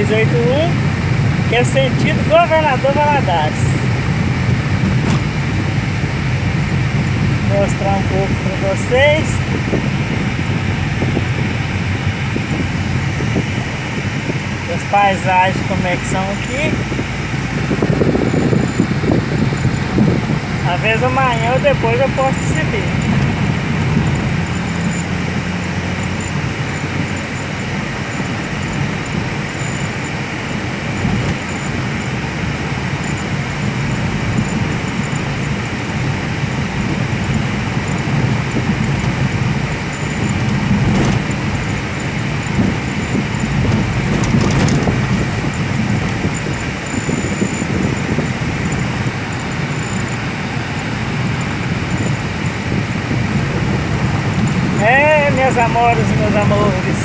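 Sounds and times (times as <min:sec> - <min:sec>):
car engine noise: 0:00.0 - 0:57.0
tyres rumbling on road: 0:00.0 - 0:57.0.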